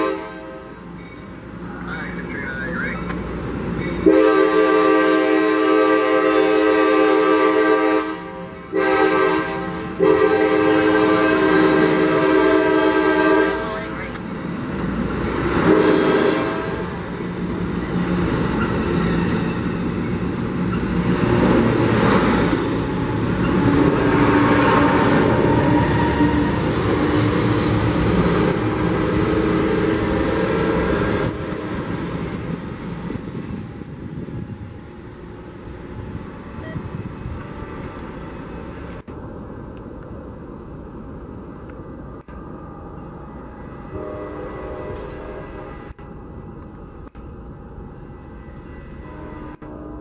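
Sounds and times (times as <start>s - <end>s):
diesel locomotive engine drone: 0.0s - 50.0s
distant train: 0.0s - 50.0s
train wheels rumbling on rails: 0.6s - 7.5s, 8.4s - 50.0s.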